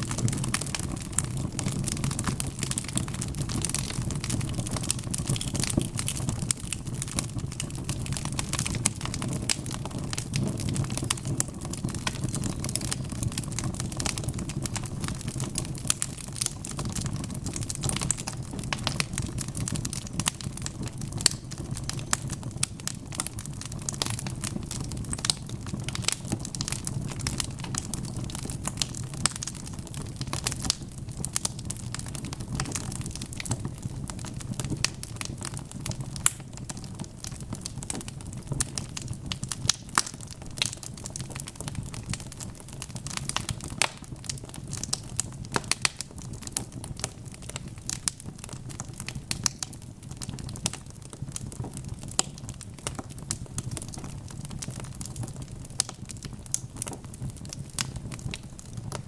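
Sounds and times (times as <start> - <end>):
burning logs crackling and popping: 0.0 - 59.0
low roar of flames: 0.0 - 59.0.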